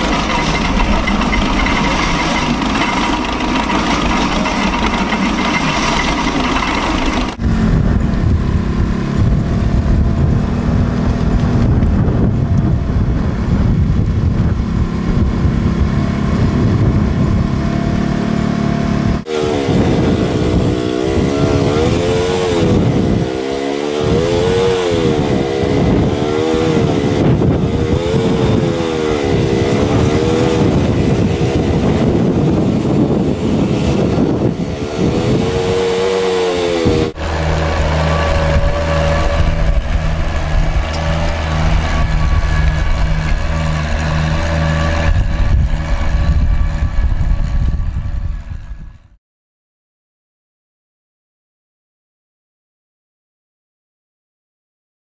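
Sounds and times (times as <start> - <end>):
tractor engines running: 0.0 - 49.0
wavering engine drone: 0.0 - 49.2.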